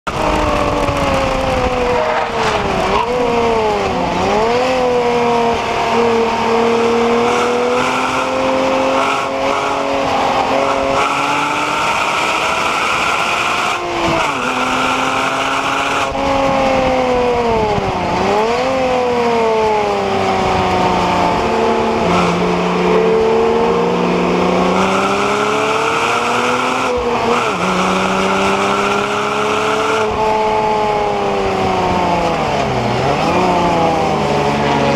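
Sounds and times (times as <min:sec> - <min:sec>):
sports car engine revving through gears: 0:00.1 - 0:34.9.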